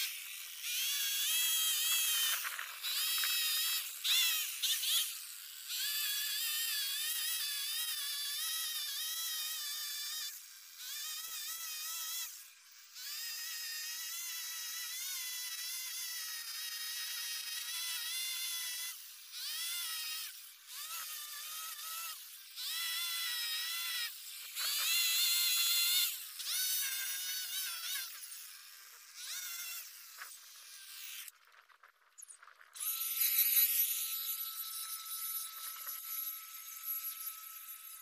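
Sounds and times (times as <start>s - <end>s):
string trimmer whining: 0.0s - 31.4s, 32.2s - 38.0s.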